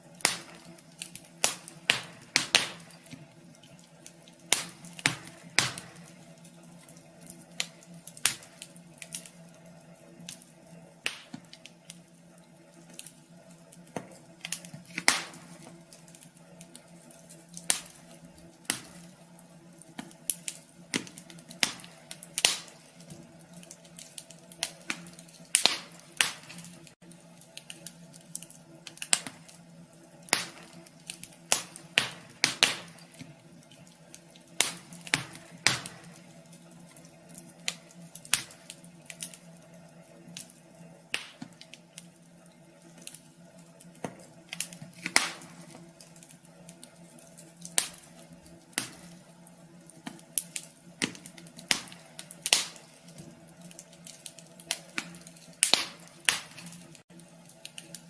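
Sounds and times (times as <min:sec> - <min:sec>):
low steady hum: 0:00.0 - 0:58.0
wood fire crackling: 0:00.0 - 0:58.0.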